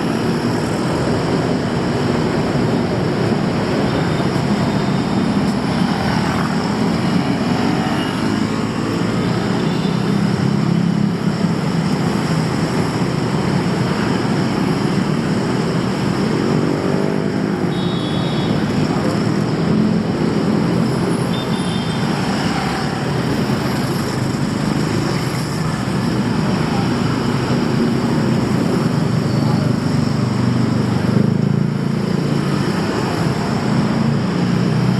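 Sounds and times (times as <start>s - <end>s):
busy street traffic: 0.0s - 34.9s.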